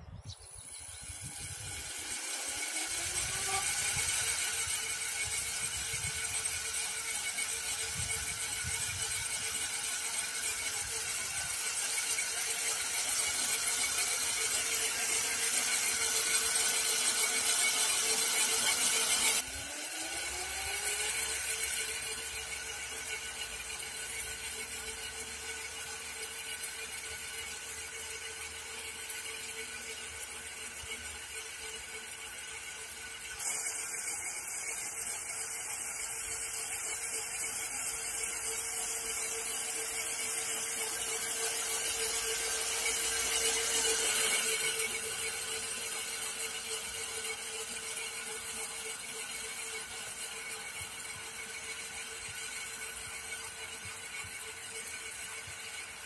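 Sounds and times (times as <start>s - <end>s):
electric cultivator high whine: 0.0s - 56.0s.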